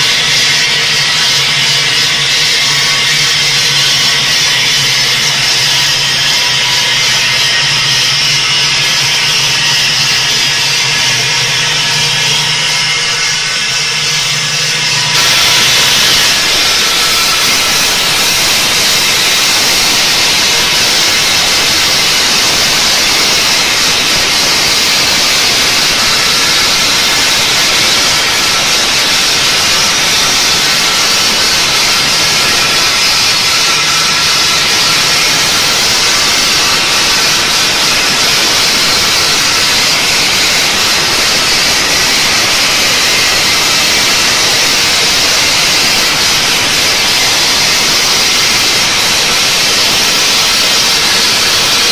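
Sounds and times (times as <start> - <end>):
stone saw grinding granite: 0.0 - 51.9.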